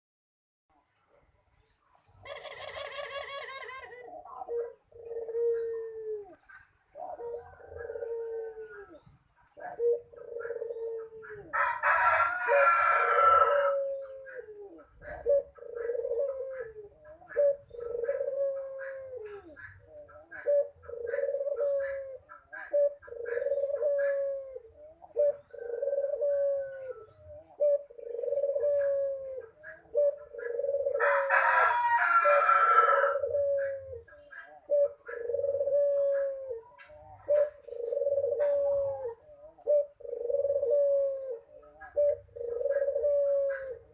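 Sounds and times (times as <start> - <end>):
dove cooing: 1.9 - 43.9.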